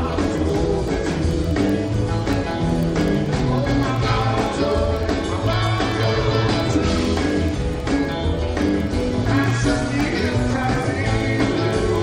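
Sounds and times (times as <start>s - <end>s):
upbeat rock and roll song: 0.0s - 12.0s.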